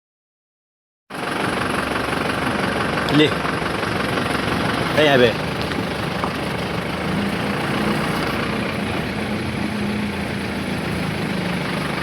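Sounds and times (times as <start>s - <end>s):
road noise: 1.1s - 12.0s
vehicle engine humming: 1.1s - 12.0s.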